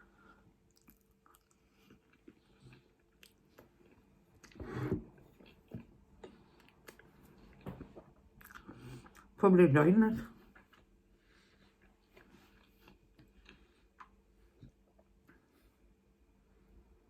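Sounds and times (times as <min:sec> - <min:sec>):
person chewing food: 0:00.0 - 0:09.4, 0:10.4 - 0:16.0.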